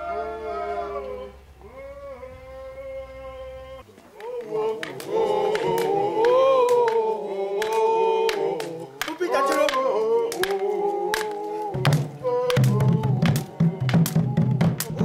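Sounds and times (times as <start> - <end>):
group chant-like singing: 0.0 - 15.0.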